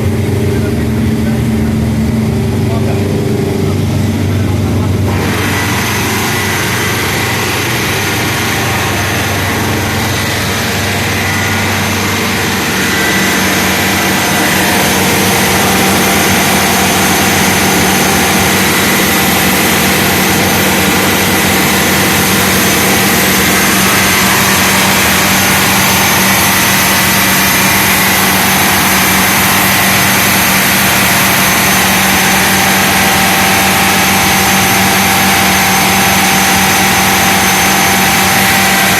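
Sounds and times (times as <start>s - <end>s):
marine diesel engine running: 0.0s - 38.9s.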